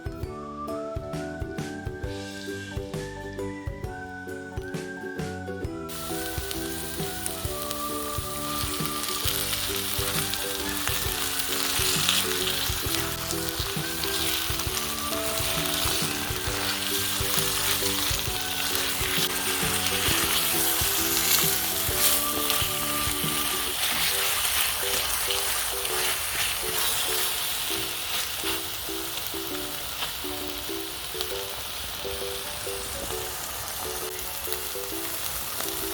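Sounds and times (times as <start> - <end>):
food sizzling in a pan: 5.9 - 35.9.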